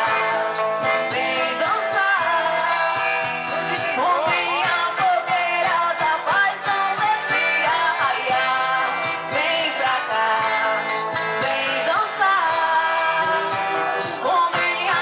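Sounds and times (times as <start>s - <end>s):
band playing instrumental music: 0.0s - 15.0s.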